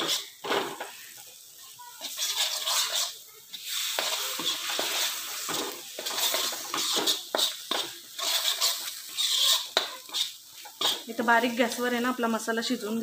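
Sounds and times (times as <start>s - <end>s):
spoon scraping metal pan: 0.0s - 1.0s, 2.0s - 11.9s
oil sizzling: 0.0s - 13.0s.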